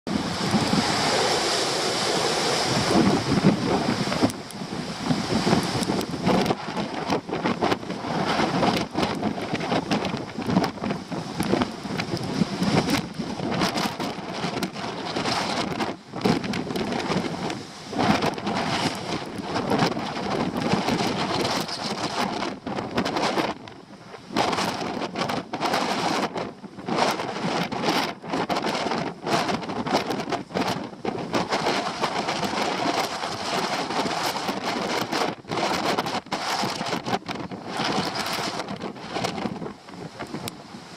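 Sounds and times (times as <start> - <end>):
rain: 0.1 - 40.9
wind buffeting microphone: 0.1 - 40.9
wind gusting: 0.1 - 40.9.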